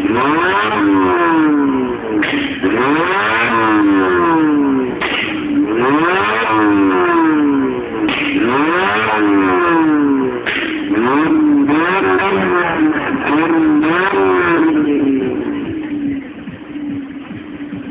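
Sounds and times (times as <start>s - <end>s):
car engine revving: 0.0s - 17.9s
exhaust pops: 0.0s - 17.9s.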